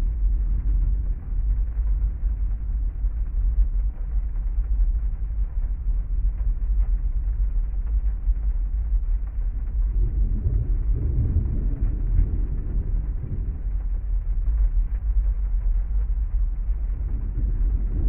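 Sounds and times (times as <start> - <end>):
heavy rain: 0.0 - 18.0
steady deep rumble: 0.0 - 18.0.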